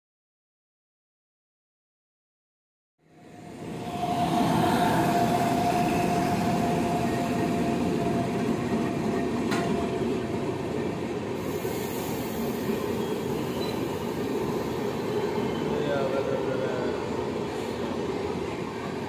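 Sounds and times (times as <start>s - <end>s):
train coaches rumbling over rails: 3.4s - 19.0s.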